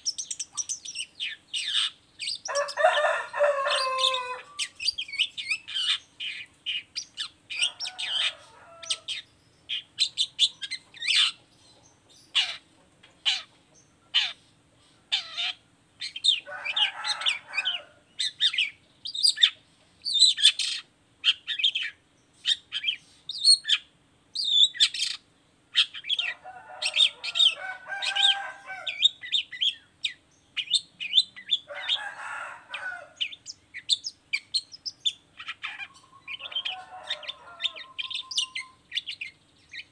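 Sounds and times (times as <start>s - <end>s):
bird harsh chatter: 0.0s - 25.2s, 25.8s - 39.9s.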